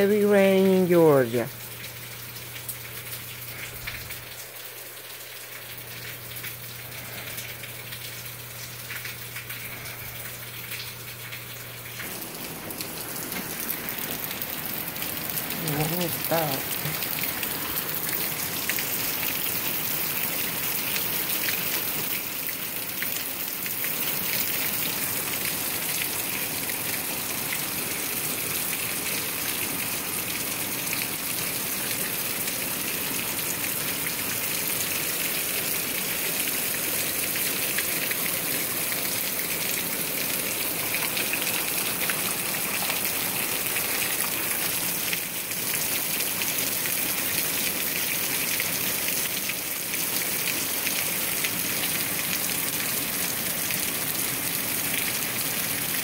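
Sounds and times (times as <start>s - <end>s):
heavy rain falling: 0.0s - 56.0s
runoff streaming off roof: 0.4s - 48.9s.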